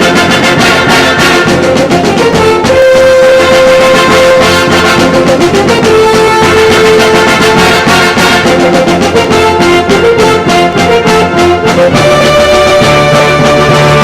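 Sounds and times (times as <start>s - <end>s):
brass band music: 0.0s - 14.0s.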